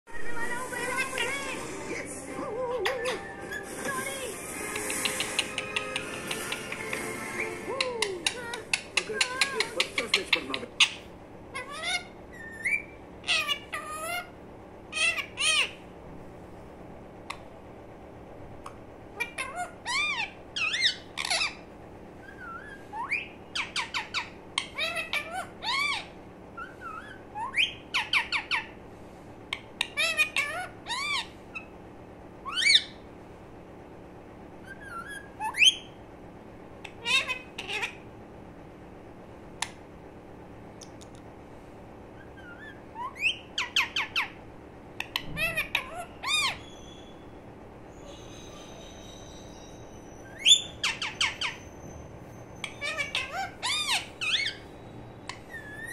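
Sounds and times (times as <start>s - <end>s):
parakeet squawking and chirping: 0.2s - 15.9s, 18.7s - 28.8s, 29.5s - 31.8s, 32.4s - 33.1s, 34.6s - 36.0s, 36.8s - 38.1s, 42.1s - 55.9s.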